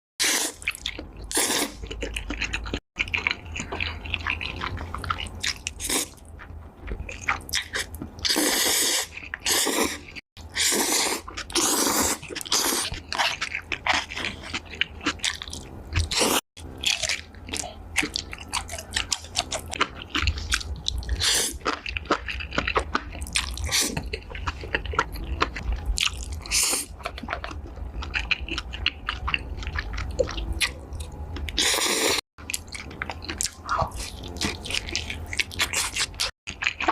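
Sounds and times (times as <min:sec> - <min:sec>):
wet chewing and smacking: 0:00.5 - 0:36.9.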